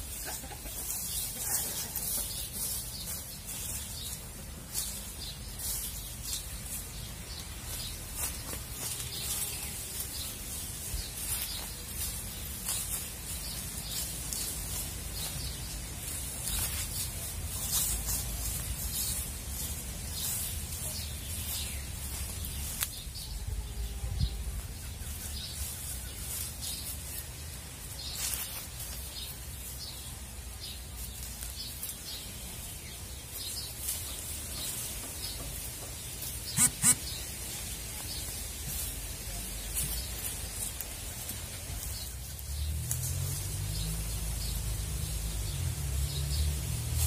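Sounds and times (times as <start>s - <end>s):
hands scraping in dry soil: 0.0s - 47.0s.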